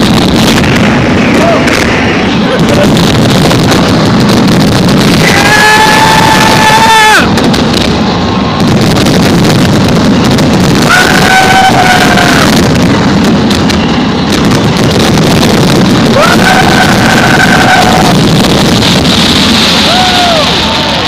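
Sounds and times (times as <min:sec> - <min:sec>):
loud steady rumble: 0:00.0 - 0:21.0
wind noise: 0:00.0 - 0:21.0.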